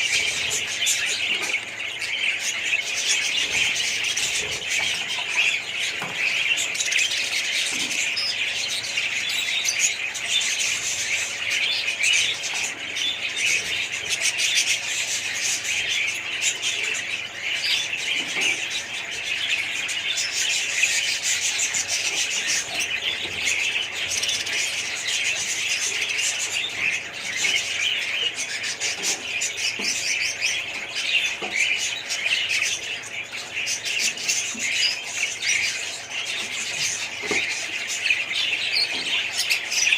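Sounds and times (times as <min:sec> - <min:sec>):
flock of parrots chirping: 0:00.0 - 0:39.9.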